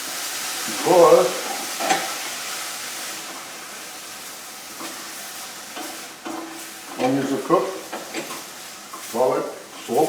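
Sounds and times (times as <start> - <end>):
vegetables sizzling in a skillet: 0.0 - 10.0.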